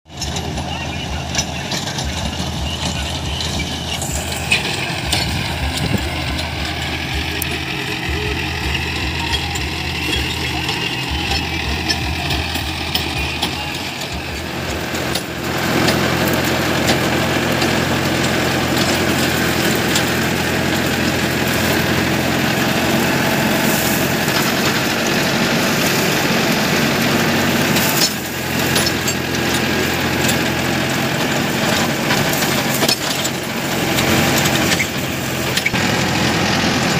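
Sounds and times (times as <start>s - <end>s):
tractor engine running: 0.1s - 36.9s.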